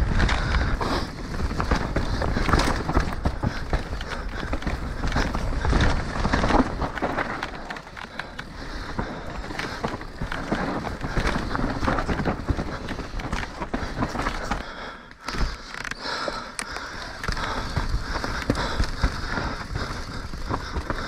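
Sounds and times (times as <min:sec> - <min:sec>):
bike tyres crunching on loose ground: 0:00.0 - 0:21.0.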